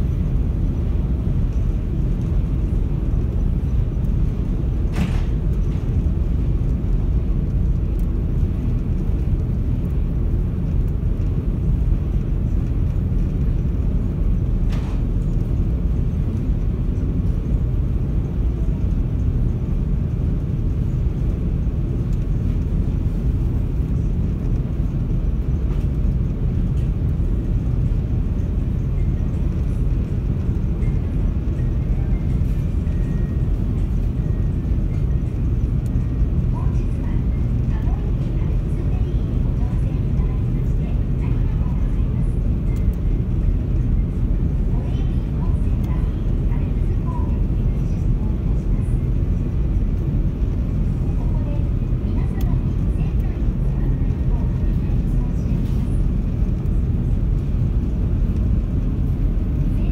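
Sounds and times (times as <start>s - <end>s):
ship engine low drone: 0.0s - 59.9s.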